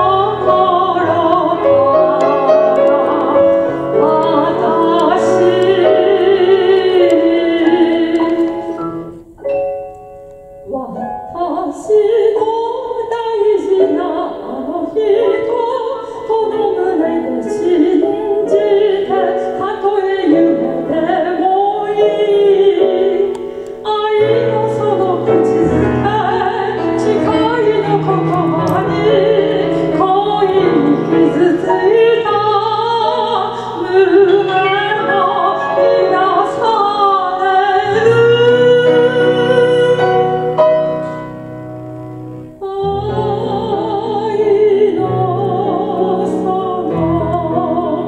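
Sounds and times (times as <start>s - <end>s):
woman singing: 0.0s - 9.1s, 10.6s - 41.3s, 42.6s - 48.0s
grand piano accompaniment: 0.0s - 48.0s.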